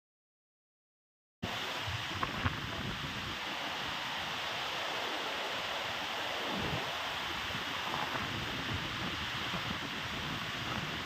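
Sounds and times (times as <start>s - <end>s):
heavy rain and wind: 1.4s - 11.0s.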